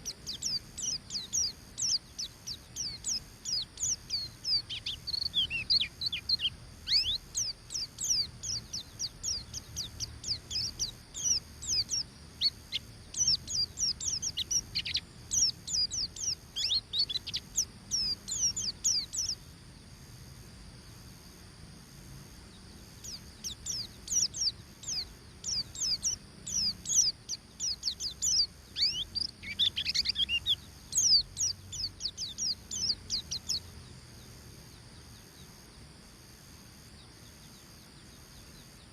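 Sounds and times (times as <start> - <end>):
white-eye bird singing: 0.0 - 19.5, 22.4 - 38.9.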